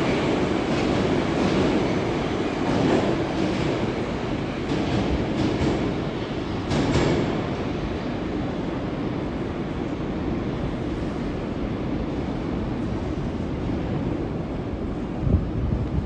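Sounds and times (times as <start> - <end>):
metro train running on track: 0.0 - 16.0.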